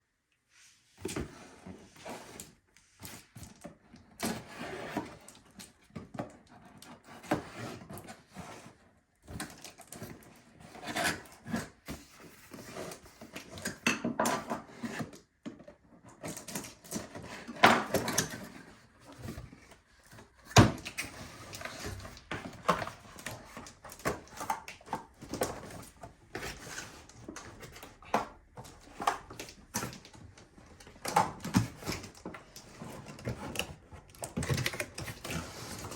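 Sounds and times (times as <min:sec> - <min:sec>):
cardboard packaging rustling and scraping: 0:00.7 - 0:35.9.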